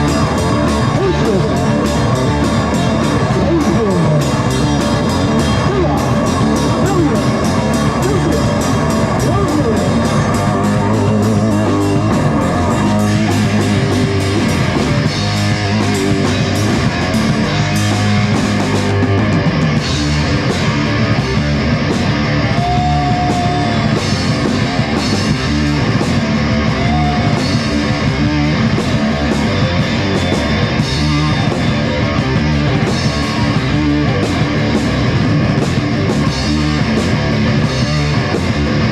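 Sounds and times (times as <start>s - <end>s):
rock music on guitar and drums: 0.0s - 38.9s.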